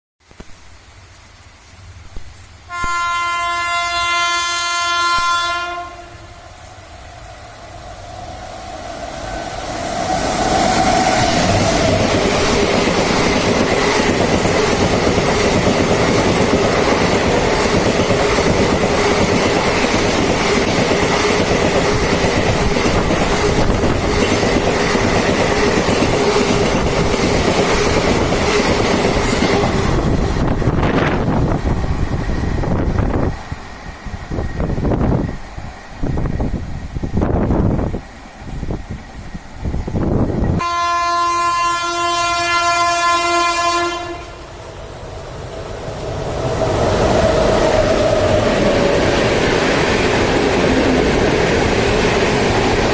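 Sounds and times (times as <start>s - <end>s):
train rumbling and clattering on rails: 0.2s - 52.9s.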